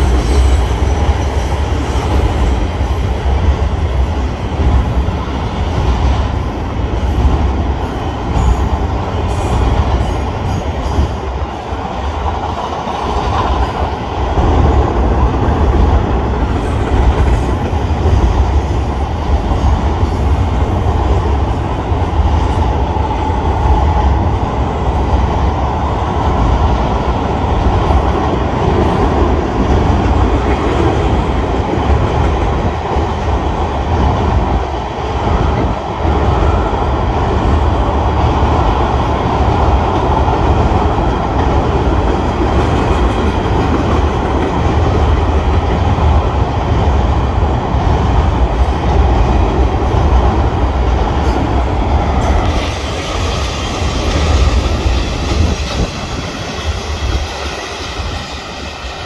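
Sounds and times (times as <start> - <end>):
freight train rolling over bridge: 0.0 - 59.0.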